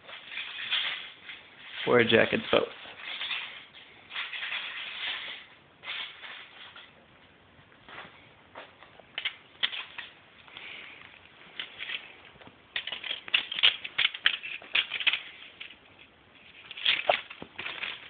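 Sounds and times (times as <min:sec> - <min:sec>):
foil balls crinkling and clattering: 0:00.0 - 0:07.0, 0:09.1 - 0:18.0.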